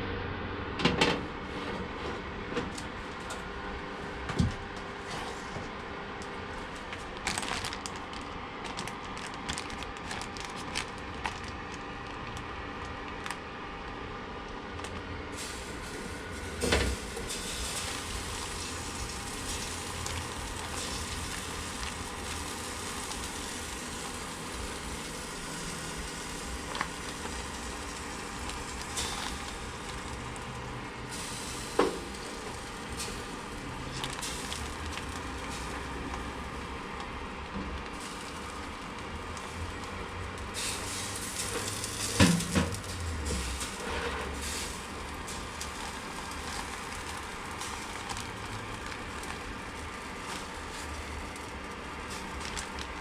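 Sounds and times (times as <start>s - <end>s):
air fryer fan hum: 0.0s - 53.0s
plastic bag rustling: 6.4s - 14.0s, 14.7s - 53.0s.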